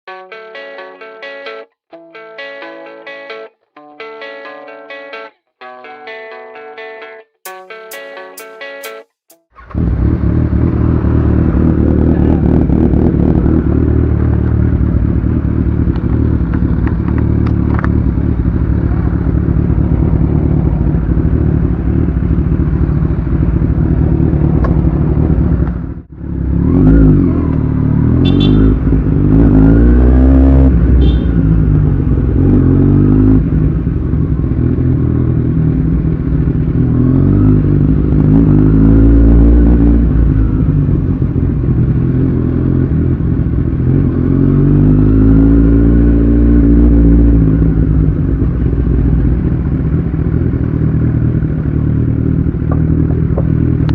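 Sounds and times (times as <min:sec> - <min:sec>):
motorcycle engine revving: 0:09.6 - 0:53.9.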